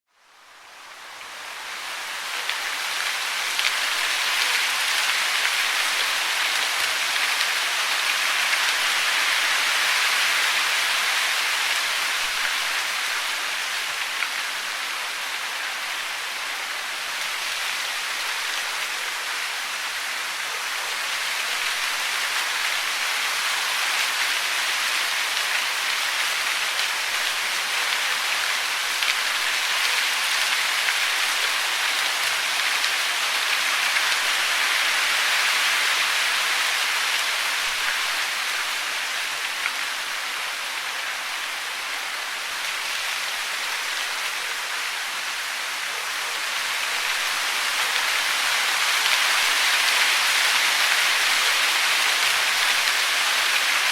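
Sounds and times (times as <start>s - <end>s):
rain pattering on a surface: 0.2s - 53.9s.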